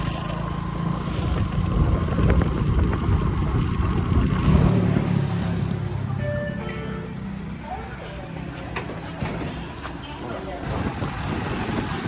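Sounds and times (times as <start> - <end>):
excavator engine rumbling: 0.0 - 12.0.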